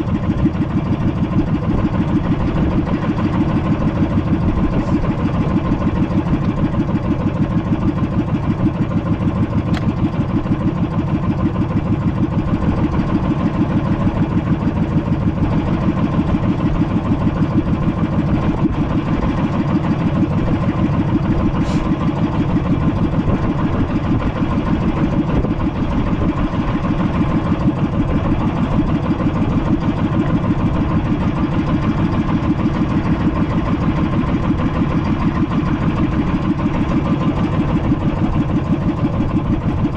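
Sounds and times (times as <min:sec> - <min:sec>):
small boat engine running: 0:00.0 - 0:39.9.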